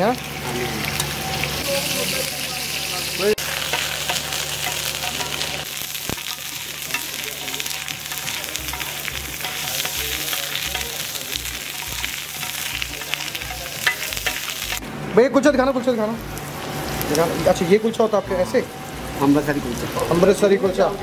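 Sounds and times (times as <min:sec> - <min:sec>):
meat sizzling in ghee: 0:00.0 - 0:14.9, 0:15.9 - 0:21.0.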